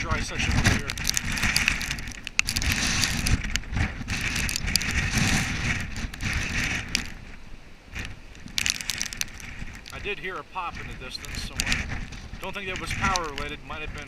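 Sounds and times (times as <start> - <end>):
sharp ticks and crackles: 0.0 - 14.0
wind gusting against microphone: 0.0 - 14.0.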